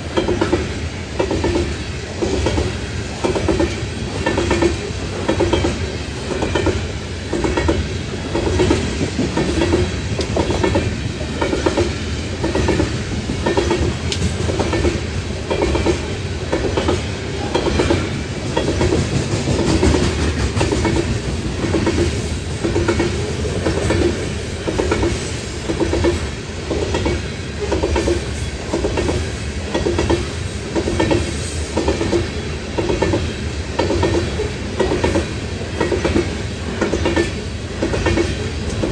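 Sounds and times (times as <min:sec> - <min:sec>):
train rumble: 0:00.0 - 0:38.9
train wheels clicking over rail joints: 0:00.0 - 0:38.9.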